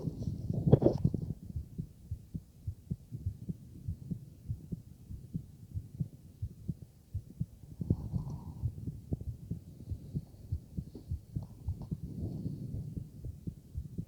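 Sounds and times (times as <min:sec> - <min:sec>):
heartbeat through stethoscope: 0:00.0 - 0:14.0.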